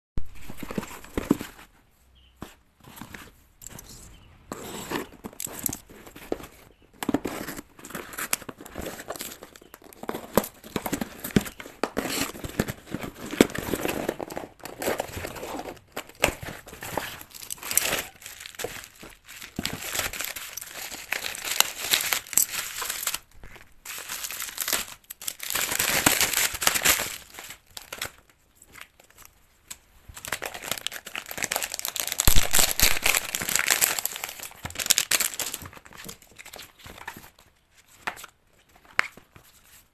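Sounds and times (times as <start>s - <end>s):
packaging crinkling and tearing: 0.2s - 1.7s, 3.2s - 39.8s.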